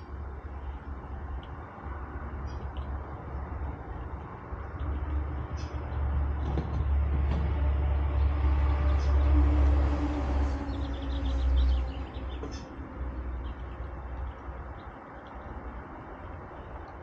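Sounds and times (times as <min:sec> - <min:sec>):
small birds chirping: 0:00.0 - 0:07.0, 0:08.0 - 0:09.8, 0:10.4 - 0:17.0
vehicle engine rumble: 0:00.0 - 0:17.0.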